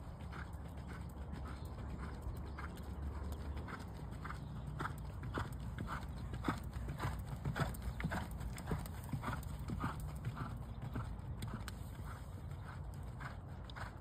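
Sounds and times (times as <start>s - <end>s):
horse hoofbeats trotting on dirt: 0.0s - 14.0s.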